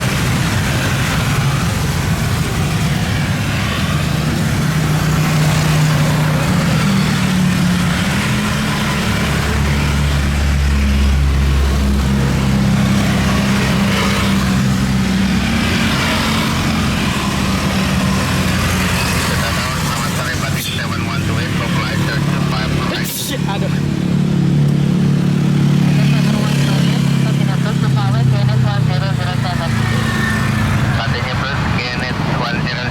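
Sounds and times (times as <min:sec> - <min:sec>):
loud engine hum: 0:00.0 - 0:32.9.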